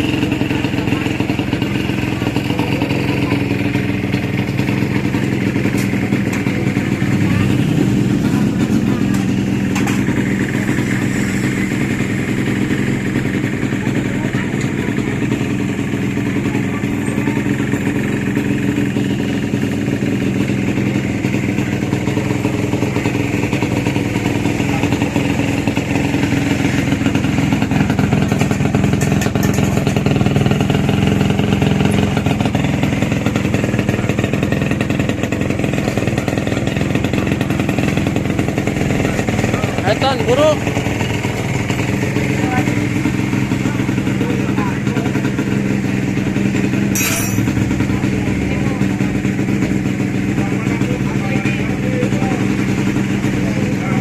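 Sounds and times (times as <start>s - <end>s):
two-stroke motorcycle engine running: 0.0s - 54.0s.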